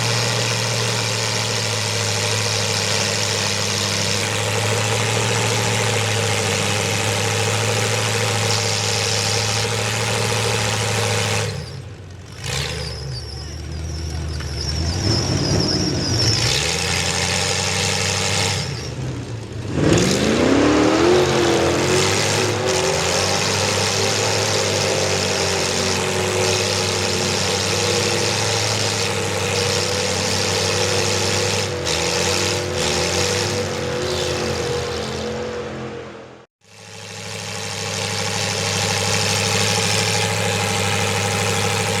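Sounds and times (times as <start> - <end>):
truck engine revving hard: 0.0 - 42.0.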